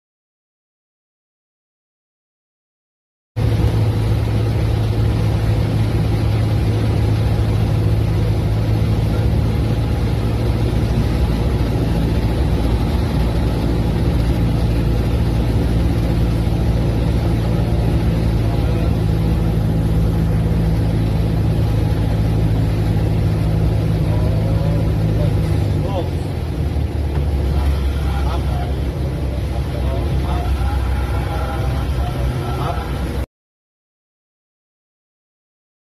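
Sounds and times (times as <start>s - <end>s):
plane engine and propeller droning: 3.4s - 33.3s.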